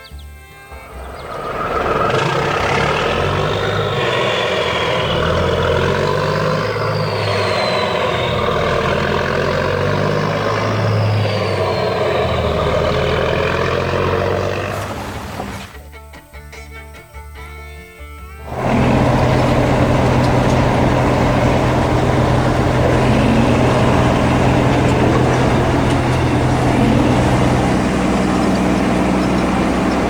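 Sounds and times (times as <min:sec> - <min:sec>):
heavy vehicle engine rumbling: 0:00.0 - 0:15.8, 0:18.4 - 0:30.0
faint gliding whine: 0:00.5 - 0:15.7, 0:18.5 - 0:30.0.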